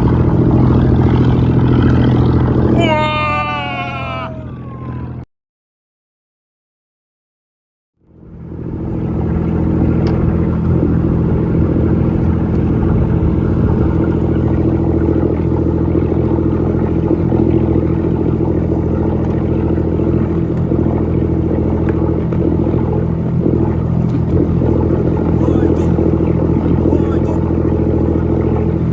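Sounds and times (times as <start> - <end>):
boat engine droning: 0.0 - 5.3, 8.0 - 28.9.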